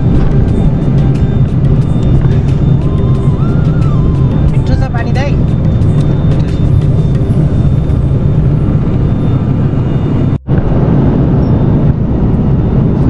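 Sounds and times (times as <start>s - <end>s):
aircraft cabin engine noise: 0.0s - 13.0s.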